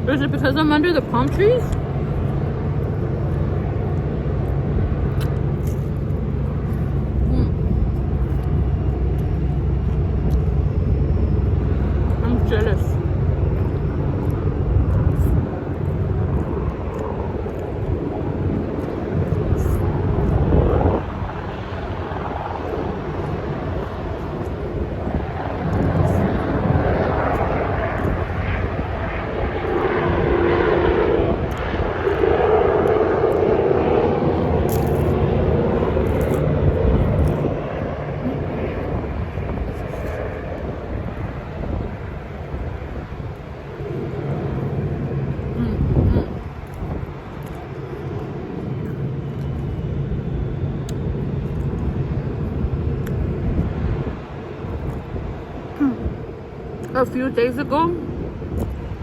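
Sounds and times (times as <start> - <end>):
aircraft engine drone overhead: 0.0 - 59.0.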